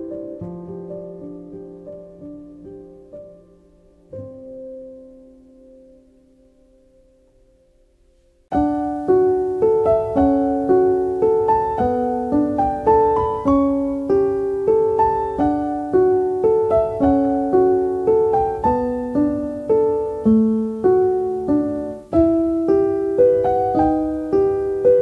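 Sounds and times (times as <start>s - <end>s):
solo piano playing: 0.0s - 25.0s.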